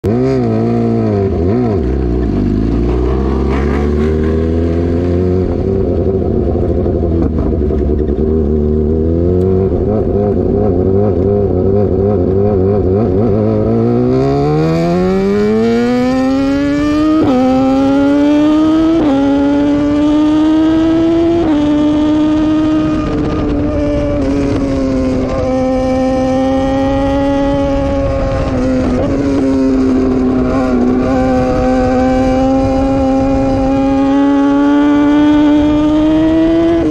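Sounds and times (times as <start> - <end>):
motorcycle engine accelerating: 0.0 - 36.9
wind noise: 0.1 - 36.9.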